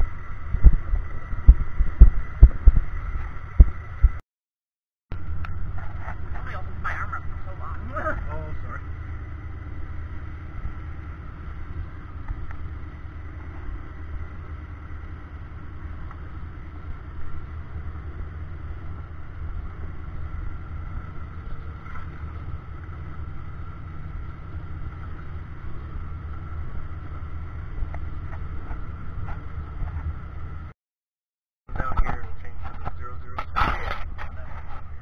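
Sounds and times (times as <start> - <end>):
car engine rumble: 0.0 - 4.2, 5.1 - 30.8, 31.7 - 35.0
faint constant whine: 5.1 - 30.7, 31.7 - 35.0.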